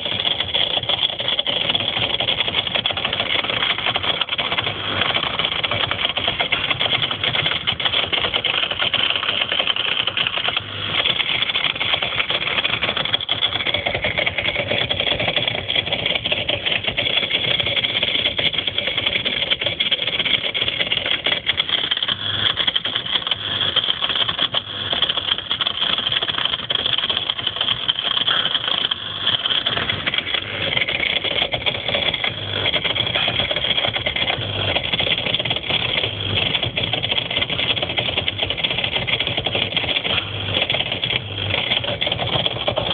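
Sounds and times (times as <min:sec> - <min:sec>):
dishwasher pump rattling: 0:00.0 - 0:42.9.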